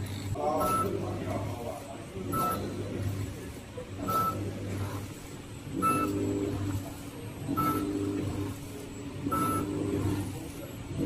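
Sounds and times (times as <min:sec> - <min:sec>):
packaging machine motor hum: 0:00.0 - 0:11.0.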